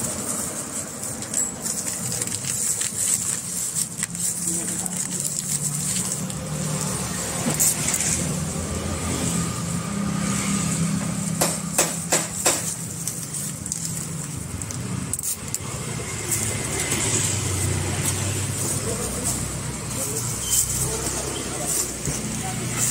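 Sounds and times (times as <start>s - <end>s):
paper wrappers rustling: 0.0s - 9.7s, 12.0s - 22.9s
road traffic hum: 0.0s - 22.9s
vehicle engines idling: 0.0s - 22.9s.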